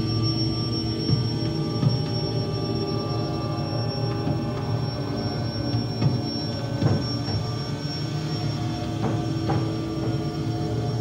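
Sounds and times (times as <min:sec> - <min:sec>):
dark ambient drone music: 0:00.0 - 0:11.0.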